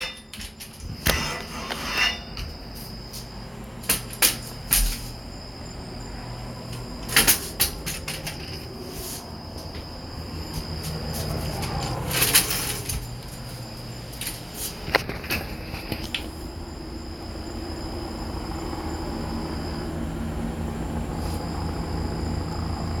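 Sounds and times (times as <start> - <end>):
thin high whine: 0.0 - 23.0.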